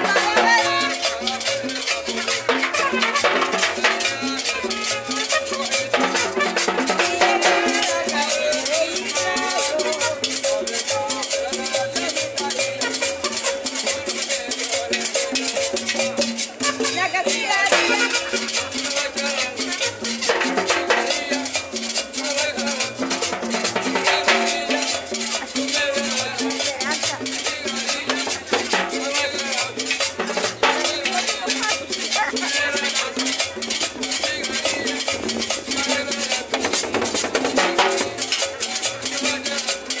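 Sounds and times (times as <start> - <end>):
latin dance band music: 0.0 - 40.0.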